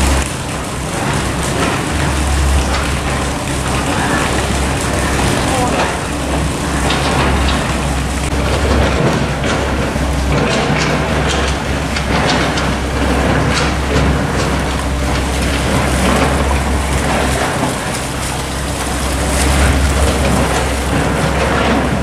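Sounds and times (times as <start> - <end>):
construction machinery engine drone: 0.0 - 22.0
knocks and clatters: 0.0 - 22.0.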